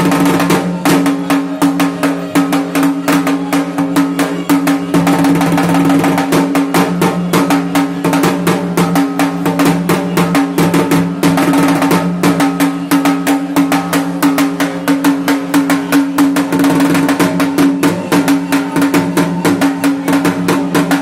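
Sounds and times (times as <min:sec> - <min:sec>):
barrel drum beaten with sticks: 0:00.0 - 0:21.0
low ringing drumhead tone: 0:00.0 - 0:21.0.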